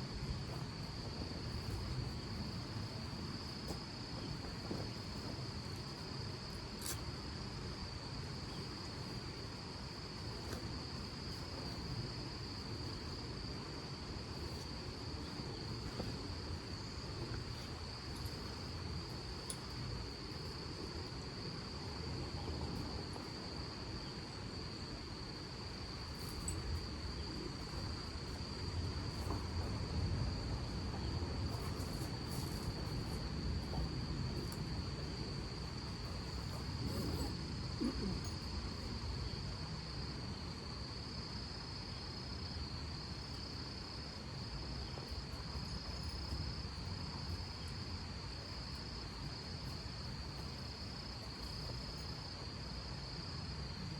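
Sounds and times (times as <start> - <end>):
cricket trilling: 0.0 - 53.9.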